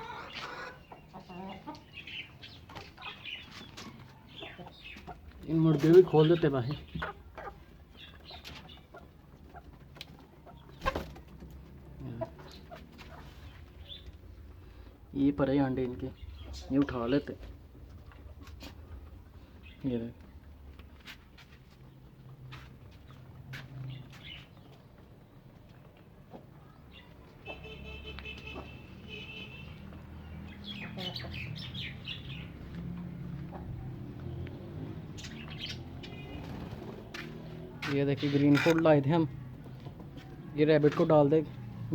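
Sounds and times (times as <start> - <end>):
chickens clucking: 0.0 - 27.7, 29.6 - 41.6
small birds chirping: 0.0 - 41.9.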